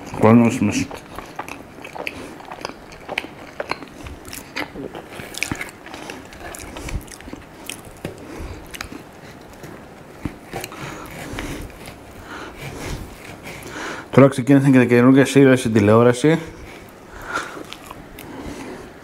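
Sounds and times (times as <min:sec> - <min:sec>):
biting and chewing: 0:00.0 - 0:14.1, 0:16.5 - 0:19.0.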